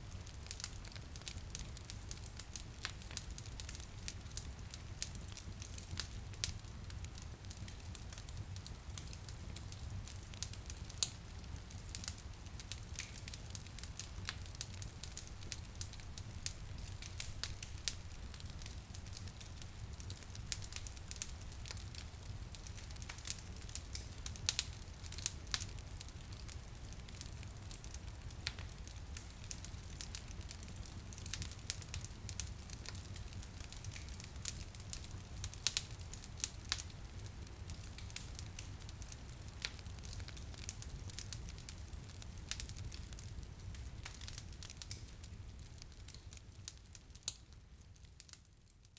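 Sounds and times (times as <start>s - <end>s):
low fire rumble: 0.0s - 48.6s
wood fire crackling: 0.0s - 48.9s.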